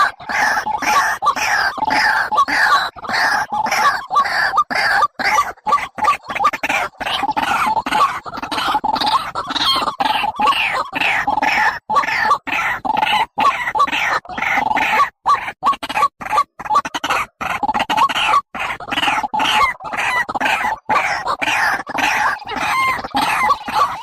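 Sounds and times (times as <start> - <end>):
bird calling: 0.0 - 24.0.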